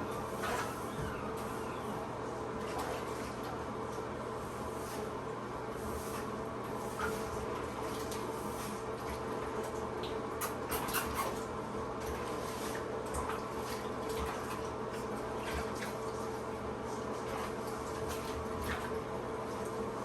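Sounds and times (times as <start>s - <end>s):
bathwater sloshing and splashing: 0.0s - 20.0s.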